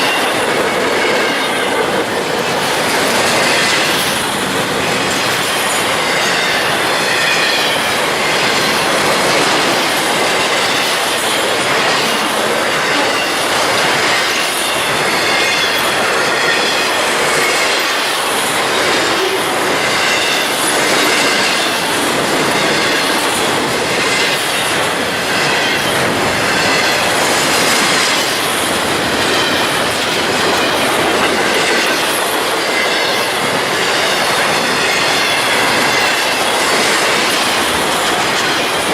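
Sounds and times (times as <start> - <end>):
train wheels rushing on rail: 0.0 - 38.9
high wheel squeal: 3.3 - 38.9.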